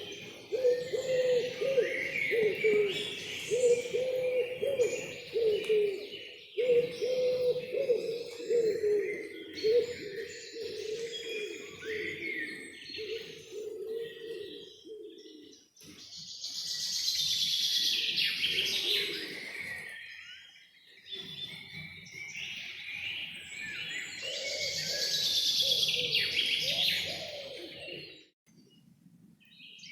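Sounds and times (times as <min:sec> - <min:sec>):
birds chirping and trilling: 0:00.0 - 0:29.9.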